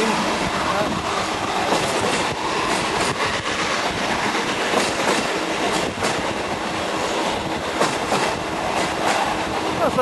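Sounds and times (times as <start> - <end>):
train rumbling: 0.0 - 10.0
wheels clicking over rail joints: 1.5 - 9.6.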